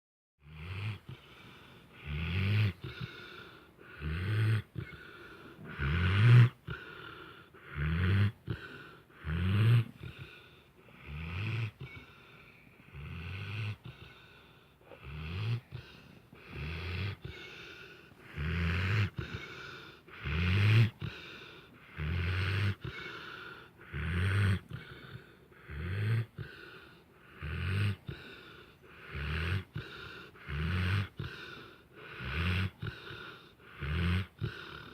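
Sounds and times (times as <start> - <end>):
low snoring: 0.4 - 34.9.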